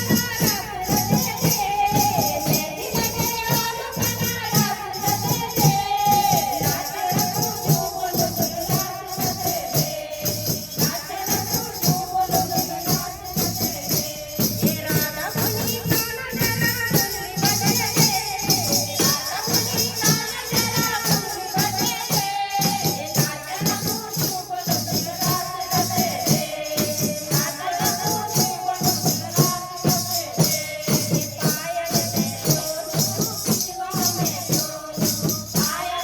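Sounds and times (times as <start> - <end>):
shaken percussion: 0.0 - 36.0
steady drum beat: 0.0 - 36.0.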